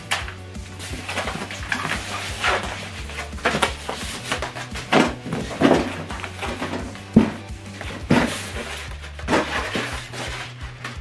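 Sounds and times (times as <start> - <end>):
quiet background music: 0.0 - 11.0
foam blocks scraping: 0.1 - 11.0.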